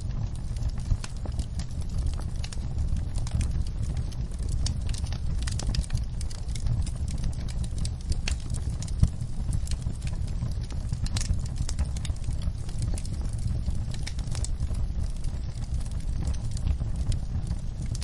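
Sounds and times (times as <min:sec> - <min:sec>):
low steady rumble: 0:00.0 - 0:18.0
wood fire crackling and popping: 0:00.0 - 0:18.0.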